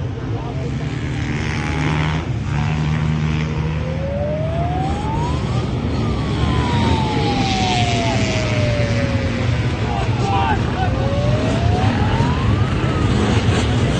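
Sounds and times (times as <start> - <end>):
motorbike engines running: 0.0 - 13.9.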